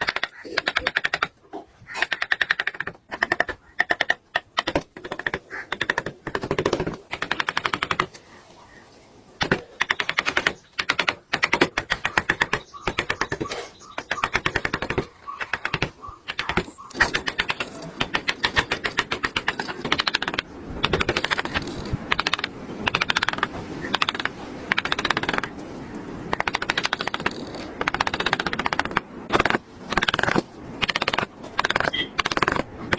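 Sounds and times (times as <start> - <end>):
carving tool clicking on wood: 0.0 - 1.3, 1.9 - 8.2, 9.4 - 25.5, 26.3 - 32.9.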